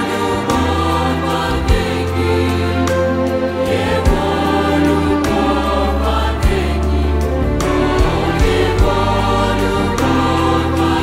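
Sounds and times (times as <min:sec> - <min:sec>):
low accompaniment: 0:00.0 - 0:11.0
mixed choir singing a hymn: 0:00.0 - 0:11.0.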